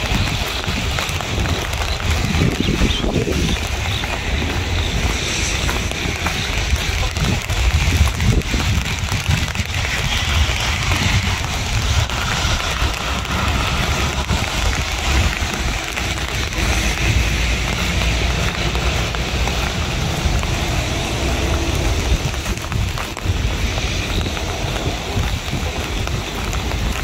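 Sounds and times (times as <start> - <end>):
deep rumble: 0.0 - 27.0
heavy rain falling: 0.0 - 27.0.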